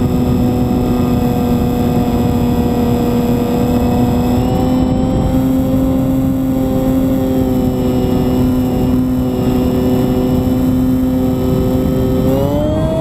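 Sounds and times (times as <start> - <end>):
aircraft motor and propeller: 0.0 - 13.0
wind noise: 0.0 - 13.0.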